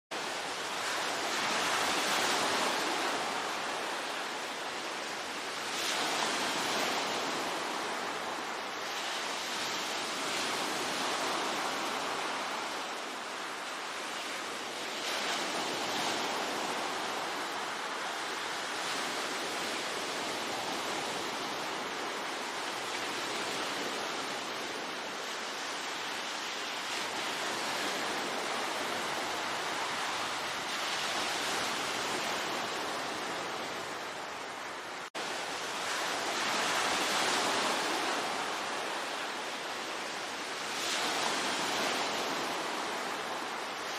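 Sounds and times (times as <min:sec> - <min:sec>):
ocean waves breaking on shore: 0:00.1 - 0:43.9.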